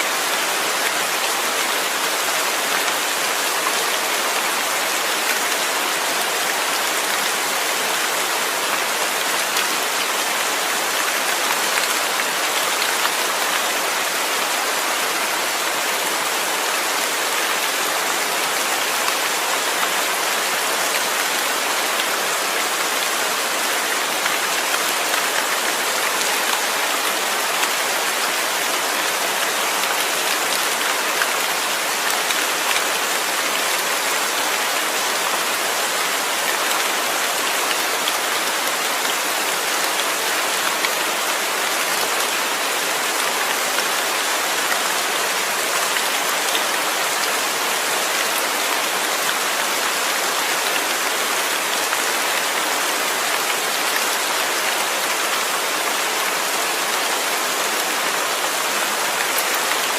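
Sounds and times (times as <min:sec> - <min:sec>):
rain falling on surface: 0:00.0 - 0:59.9.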